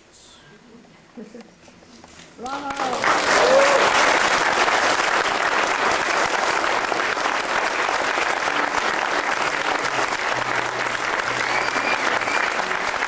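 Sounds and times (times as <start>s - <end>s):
guests applauding: 2.4s - 13.0s.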